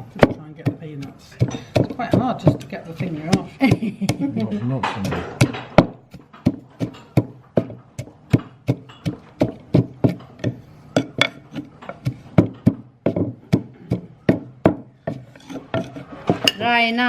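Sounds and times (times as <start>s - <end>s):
pestle pounding in a mortar: 0.0s - 17.0s.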